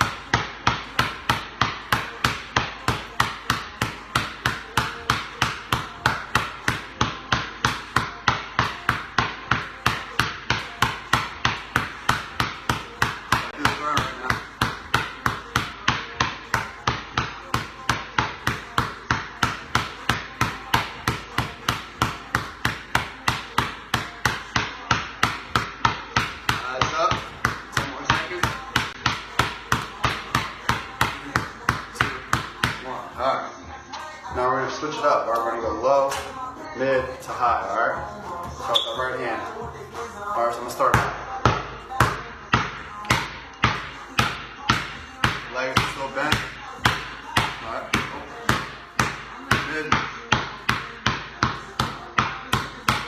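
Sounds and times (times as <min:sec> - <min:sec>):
basketball bouncing on concrete: 0:00.0 - 0:33.3, 0:37.0 - 0:53.0.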